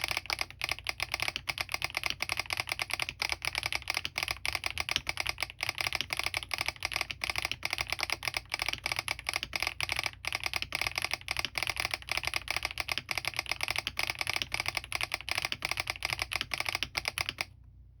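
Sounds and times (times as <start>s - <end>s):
fast mechanical keyboard typing: 0.0s - 17.6s.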